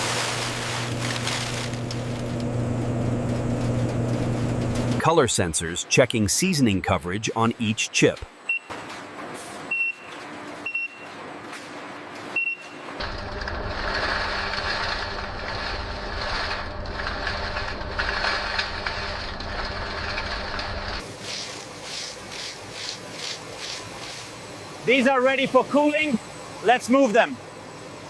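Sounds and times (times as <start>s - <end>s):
food-processing machinery running: 0.0s - 5.4s, 9.2s - 28.0s.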